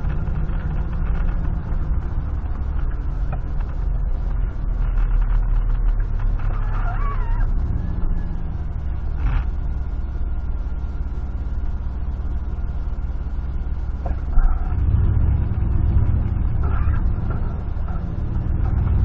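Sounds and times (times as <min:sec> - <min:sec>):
pickup engine rumbling: 0:00.0 - 0:19.0.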